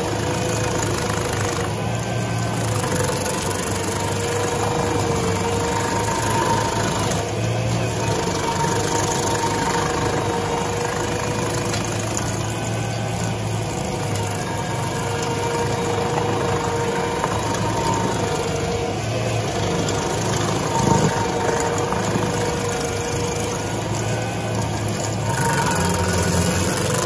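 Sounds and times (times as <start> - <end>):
stump grinder engine drone: 0.0 - 27.0.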